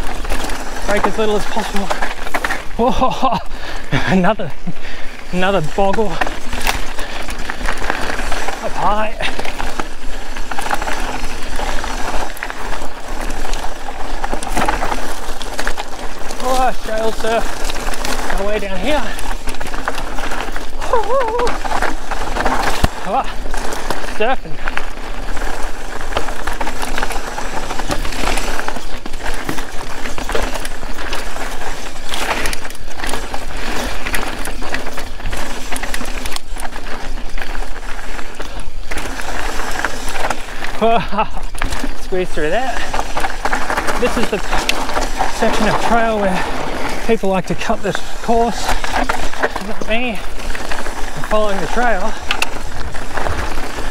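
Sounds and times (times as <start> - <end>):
bike tyres rattling over stones: 0.0 - 53.9.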